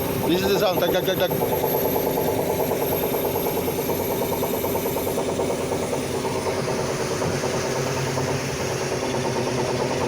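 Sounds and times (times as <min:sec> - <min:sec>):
machine engine running: 0:00.0 - 0:10.0
rapid hydraulic knocking: 0:00.0 - 0:10.0.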